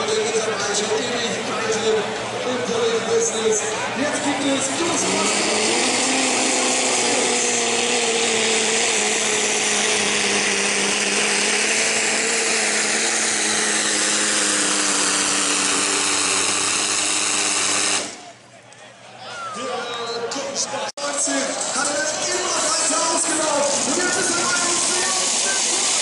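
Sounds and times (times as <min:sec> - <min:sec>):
tractor engine at full throttle: 0:00.0 - 0:18.5, 0:21.0 - 0:26.0.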